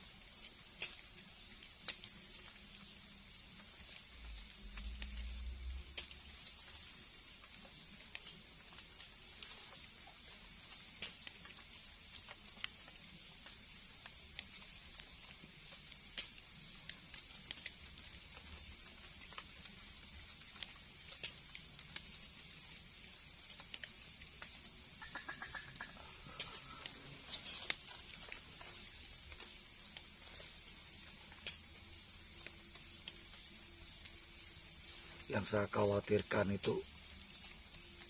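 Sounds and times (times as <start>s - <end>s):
faint high hiss: 0.0s - 38.0s
small ticks and clicks: 0.0s - 38.0s.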